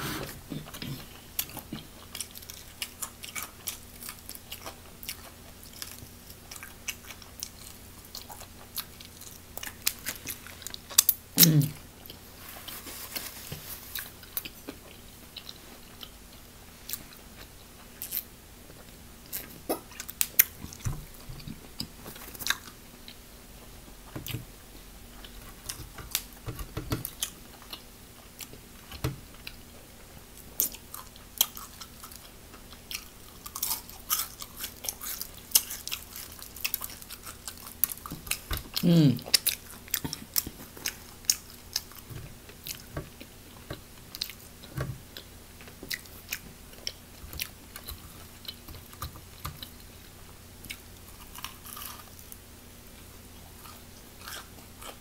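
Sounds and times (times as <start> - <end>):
crunchy chewing of fried chicken: 0.0 - 55.0.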